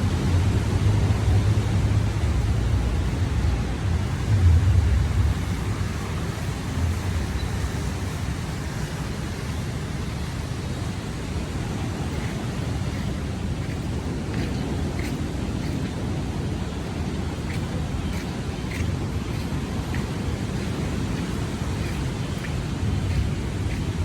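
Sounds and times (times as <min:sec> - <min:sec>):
waves breaking on beach: 0:00.0 - 0:24.0.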